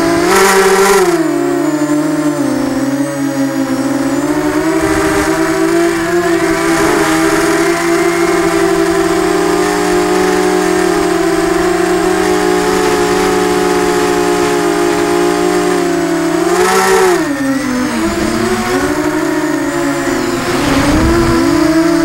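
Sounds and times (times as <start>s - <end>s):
drone motors and propellers whining: 0.0s - 22.0s.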